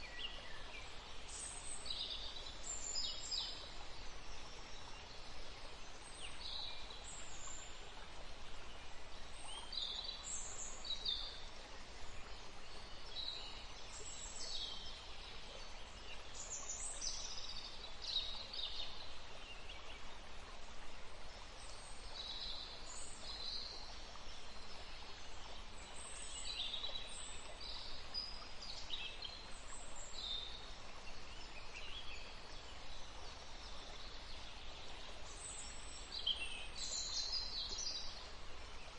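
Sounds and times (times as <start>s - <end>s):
forest stream rushing: 0.0s - 38.9s.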